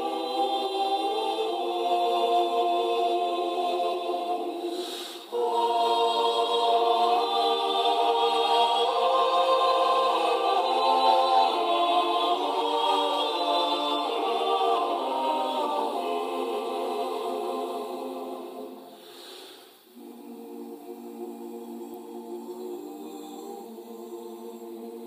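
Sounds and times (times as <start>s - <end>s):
choir singing held chords: 0.0s - 25.0s.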